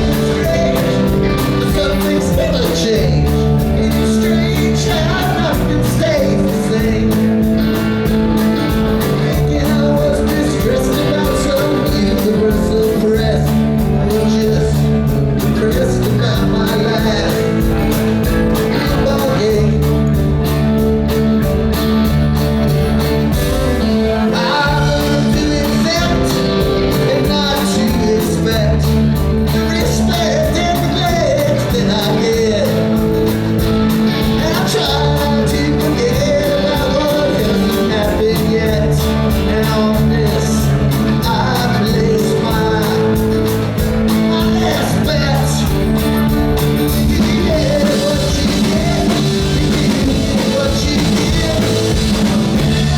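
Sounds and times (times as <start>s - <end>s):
lead vocal singing: 0.0s - 20.4s, 23.5s - 52.9s
rock band playing: 0.0s - 52.9s.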